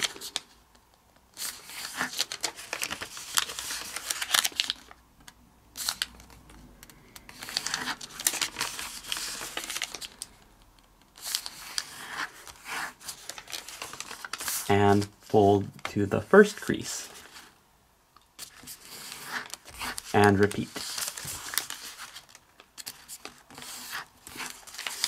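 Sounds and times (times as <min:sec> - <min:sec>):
paper crinkling as folded: 0:00.0 - 0:00.6, 0:01.3 - 0:05.0, 0:05.8 - 0:17.6, 0:18.4 - 0:25.0.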